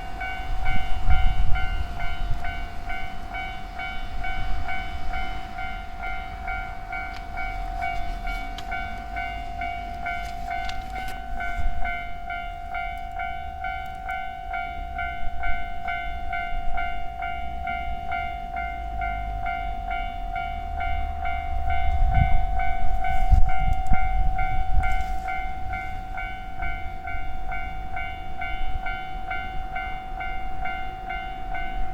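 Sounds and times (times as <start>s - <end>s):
level-crossing bell dinging: 0.0s - 31.9s
train rumbling: 0.0s - 31.9s.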